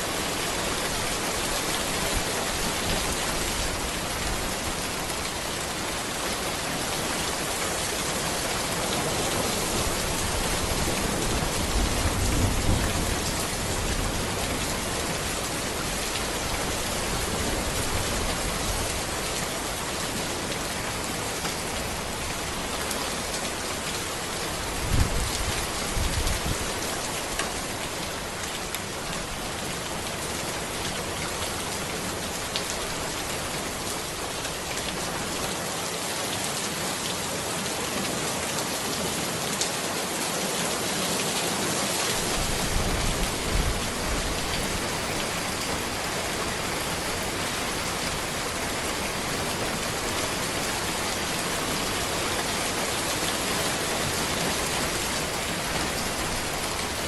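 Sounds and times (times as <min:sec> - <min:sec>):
heavy rain on road and trees: 0:00.0 - 0:57.0.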